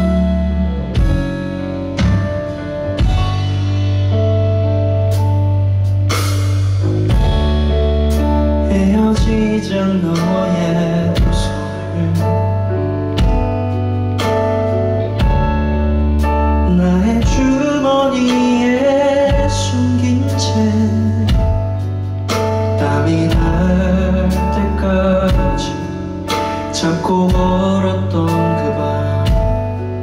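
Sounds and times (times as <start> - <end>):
live band playing slow song: 0.0 - 30.0.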